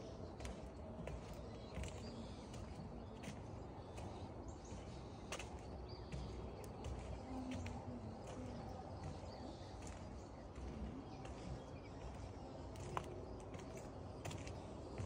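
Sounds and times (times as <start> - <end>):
footsteps on wooden footbridge: 0.0 - 15.0
soft steady rumble: 0.0 - 15.0.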